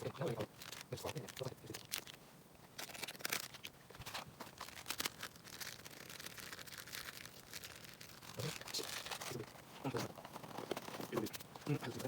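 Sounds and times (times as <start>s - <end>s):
rustling and crinkling of handling: 0.0s - 12.0s.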